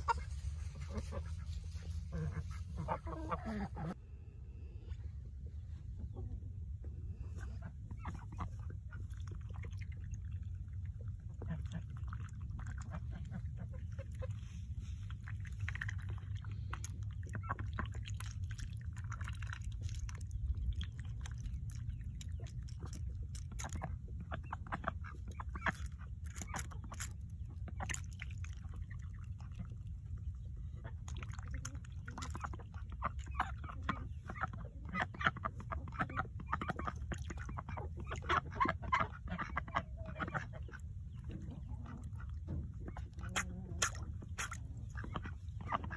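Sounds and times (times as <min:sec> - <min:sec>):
ducks dabbling and splashing water: 0:00.0 - 0:04.0, 0:04.7 - 0:45.9
ducks quacking softly: 0:00.0 - 0:04.0, 0:05.9 - 0:45.9
steady low rumble: 0:00.0 - 0:45.9.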